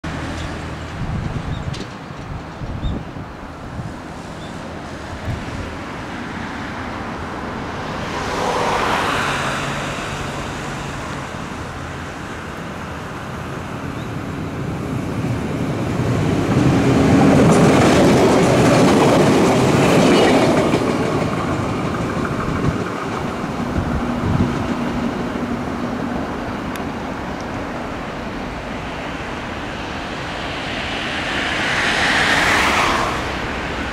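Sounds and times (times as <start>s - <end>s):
electric train passing: 0.0s - 33.9s
train wheels on rails: 0.0s - 33.9s.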